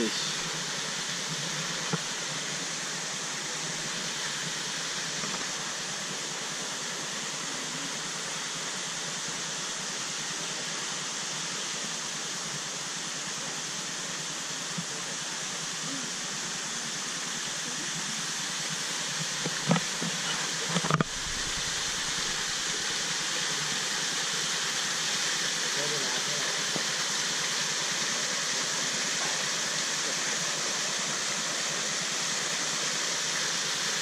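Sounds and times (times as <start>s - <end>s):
waterfall rushing onto rocks: 0.0s - 34.0s.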